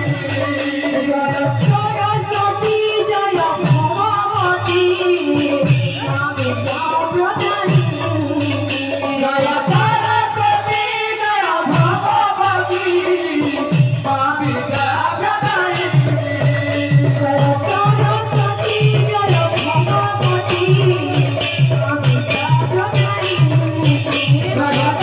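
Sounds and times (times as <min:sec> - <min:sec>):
jingling metal percussion: 0:00.0 - 0:25.0.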